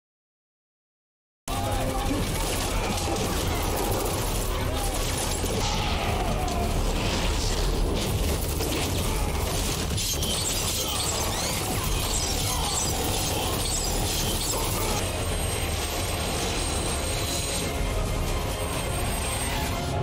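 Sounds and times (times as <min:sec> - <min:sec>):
explosions and fight noise: 0:01.5 - 0:20.0.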